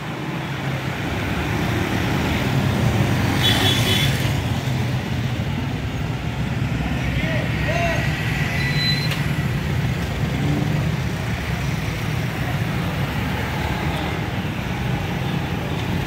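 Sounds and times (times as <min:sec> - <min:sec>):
cars passing: 0:00.0 - 0:16.0
motorcycles passing: 0:00.0 - 0:16.0.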